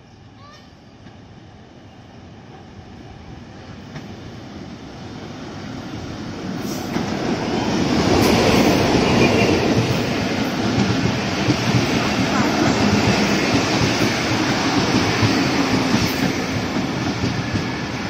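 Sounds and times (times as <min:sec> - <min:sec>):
train approaching: 0:00.0 - 0:18.0.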